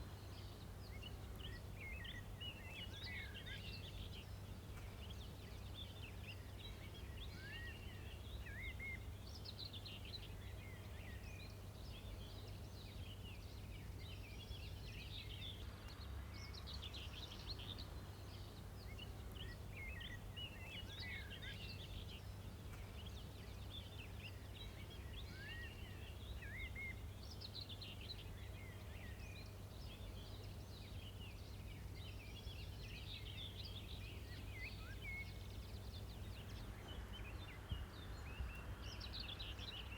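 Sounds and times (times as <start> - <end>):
faint low hum: 0.0 - 39.9
small birds chirping: 0.0 - 39.9.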